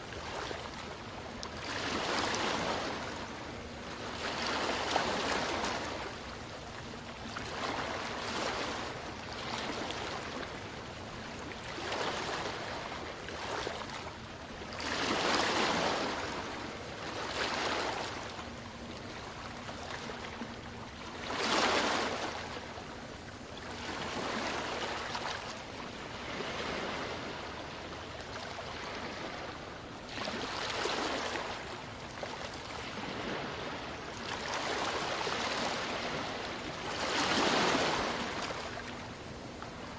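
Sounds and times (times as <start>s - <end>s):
small waves washing on sand: 0.0s - 14.0s, 14.6s - 18.4s, 21.1s - 22.8s, 23.7s - 39.9s.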